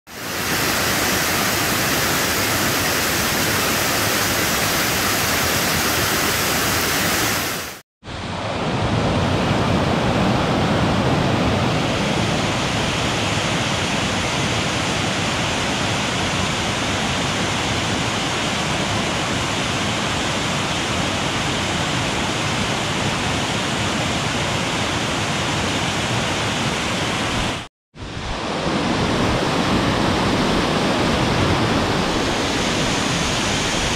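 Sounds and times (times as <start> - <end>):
waterfall roaring over rocks: 0.1 - 33.9.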